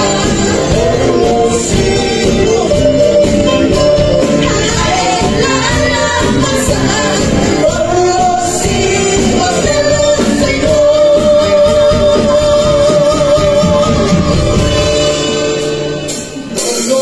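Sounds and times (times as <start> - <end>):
women singing praise song: 0.0 - 14.5
percussion: 0.0 - 17.0.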